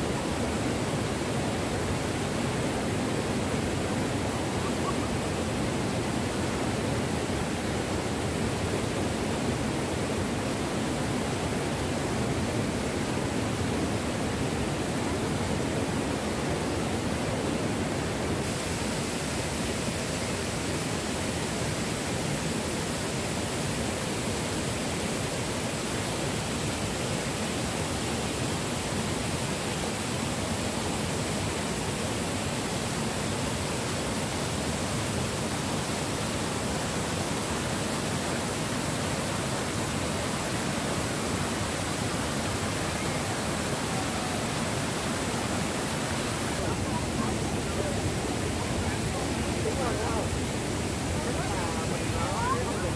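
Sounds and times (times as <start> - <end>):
waterfall rushing over rocks: 0.0 - 52.9.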